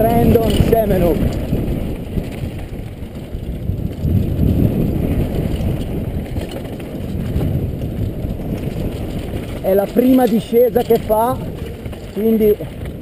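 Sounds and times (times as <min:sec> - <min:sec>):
bike rattling over bumps: 0:00.0 - 0:13.0
tyres crunching on dirt: 0:00.0 - 0:13.0
wind rumble on microphone: 0:00.0 - 0:13.0.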